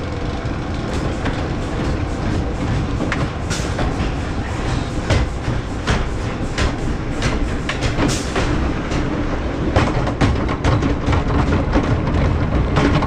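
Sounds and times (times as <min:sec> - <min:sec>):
roller coaster wheels clacking: 0:00.0 - 0:13.0.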